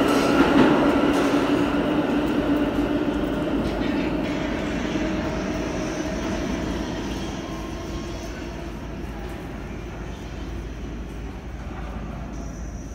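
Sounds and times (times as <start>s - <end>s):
subway train rumbling: 0.0s - 12.9s.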